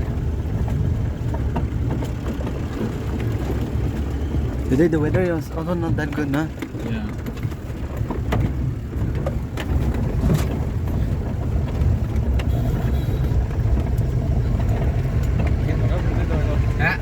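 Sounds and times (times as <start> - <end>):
knocks and rattles: 0.0 - 17.0
vehicle driving rumble: 0.0 - 17.0.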